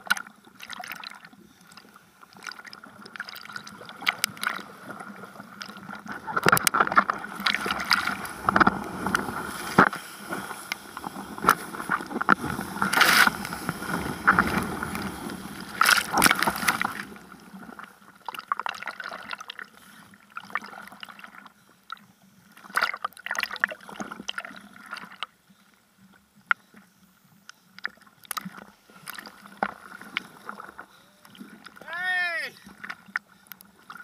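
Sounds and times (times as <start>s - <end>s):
water sloshing and splashing: 0.0s - 21.5s, 22.6s - 25.3s, 27.8s - 31.9s.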